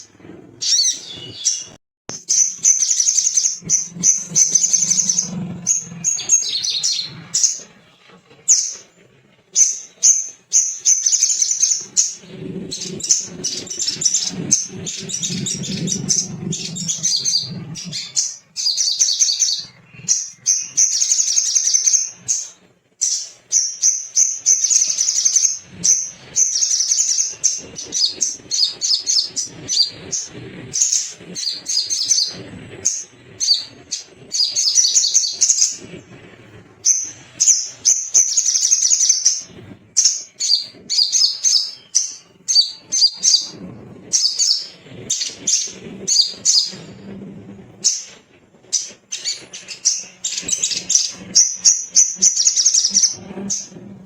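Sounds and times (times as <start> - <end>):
bird singing high chirps and trills: 0.0 - 47.0, 47.6 - 54.0.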